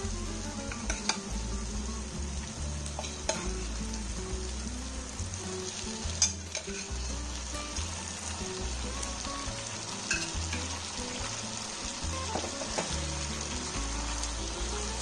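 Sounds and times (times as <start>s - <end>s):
background music with bass line: 0.0s - 15.0s
chicken sizzling in a pan: 0.0s - 15.0s.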